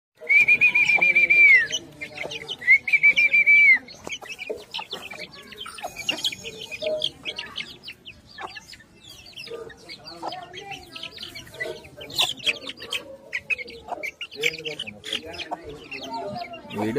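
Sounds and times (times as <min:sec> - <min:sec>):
chicks peeping: 0:00.2 - 0:16.9.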